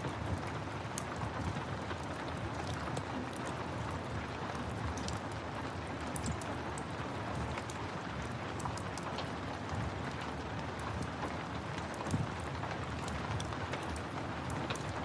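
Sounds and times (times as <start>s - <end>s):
steady rain: 0.0s - 15.0s
wood fire crackling: 0.1s - 15.0s.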